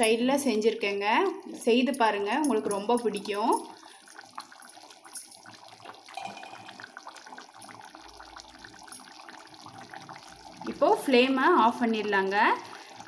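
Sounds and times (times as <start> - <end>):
curry bubbling and popping: 0.0 - 13.0.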